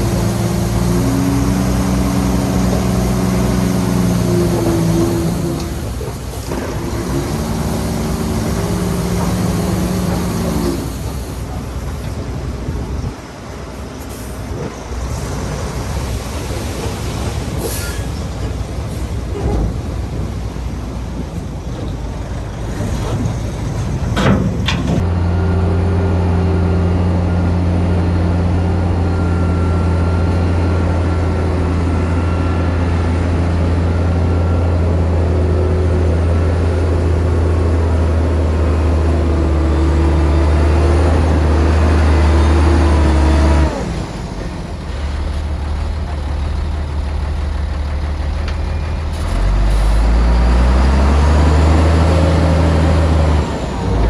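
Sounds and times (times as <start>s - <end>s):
diesel engine revving: 0.0s - 13.2s, 14.5s - 54.0s.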